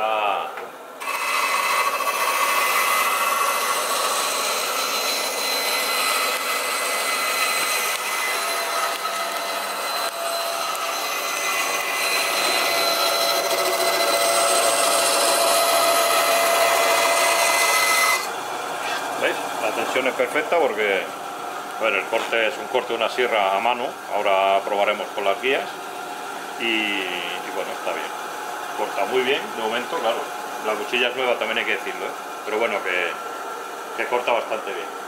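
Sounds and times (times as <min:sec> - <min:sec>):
band saw running: 0:01.0 - 0:35.0.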